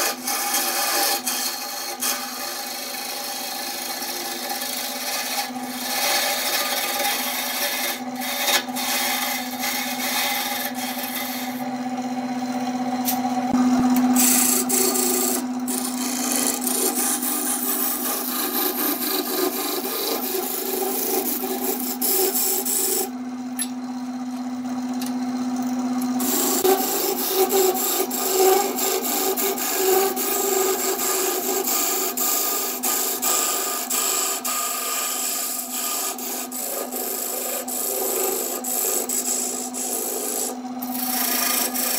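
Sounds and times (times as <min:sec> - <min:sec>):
chisel scraping spinning wood: 0:00.0 - 0:41.9
lathe motor humming: 0:00.0 - 0:41.9.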